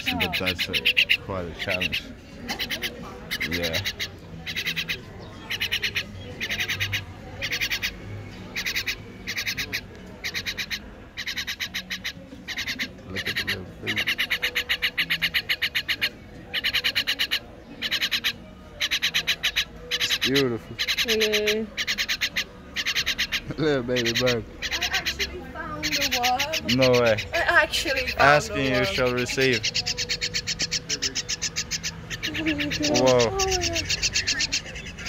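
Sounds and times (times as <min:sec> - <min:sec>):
fledgling bird begging calls: 0:00.0 - 0:35.0.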